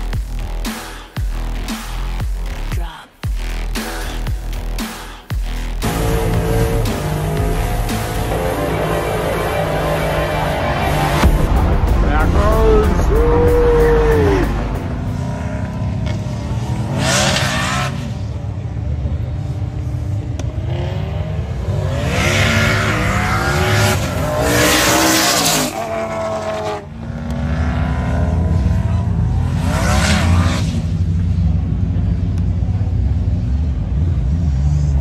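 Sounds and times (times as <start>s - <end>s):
race cars accelerating: 5.6s - 35.0s.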